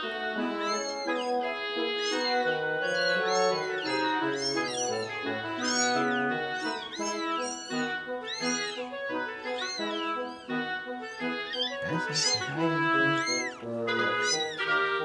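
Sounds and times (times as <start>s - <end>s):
background music with held notes: 0.0s - 15.0s
kittens mewing: 0.0s - 15.0s.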